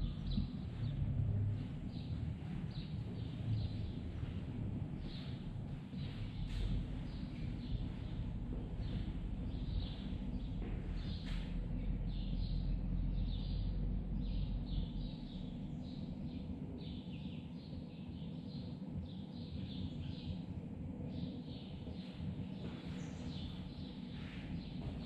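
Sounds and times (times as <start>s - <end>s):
low rumble: 0.0s - 25.0s
small birds chirping: 0.0s - 25.0s.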